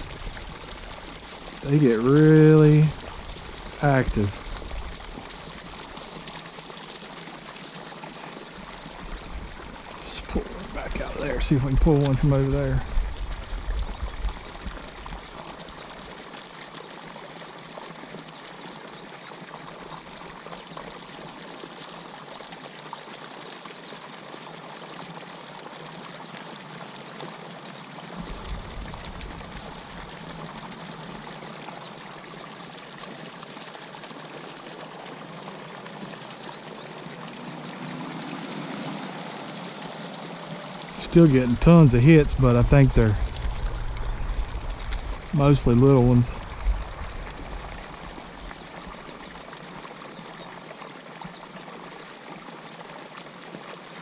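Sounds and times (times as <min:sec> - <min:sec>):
water pouring into pond: 0:00.0 - 0:54.0.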